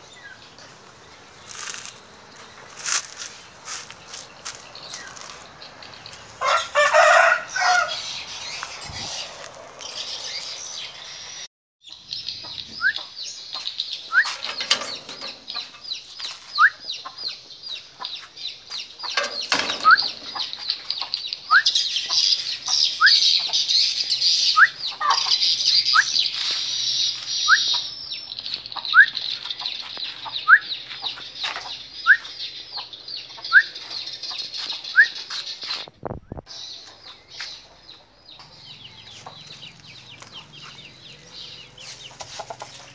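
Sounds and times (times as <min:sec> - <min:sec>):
bird chirping: 0:00.0 - 0:42.9.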